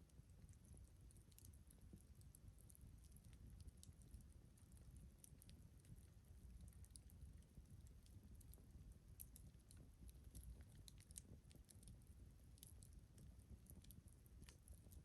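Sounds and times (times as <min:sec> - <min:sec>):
low steady rumble: 0:00.0 - 0:15.0
campfire crackling: 0:00.4 - 0:15.0.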